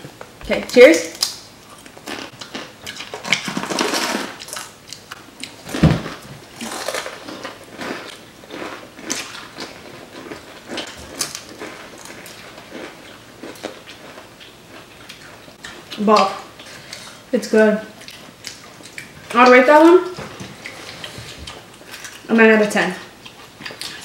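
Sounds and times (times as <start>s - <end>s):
crunching and chewing: 1.1s - 17.3s, 17.9s - 19.3s, 20.5s - 22.3s, 23.0s - 24.0s.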